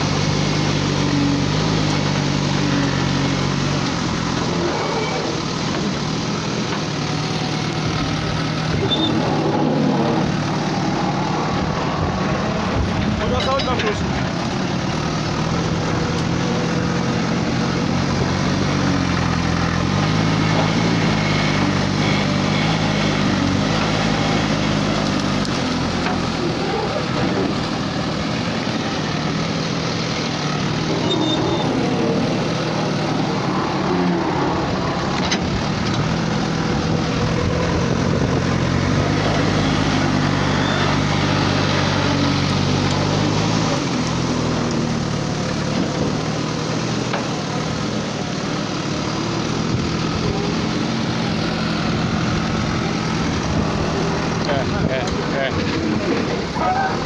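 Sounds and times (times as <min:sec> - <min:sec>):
backhoe diesel engine under load: 0:00.0 - 0:57.0.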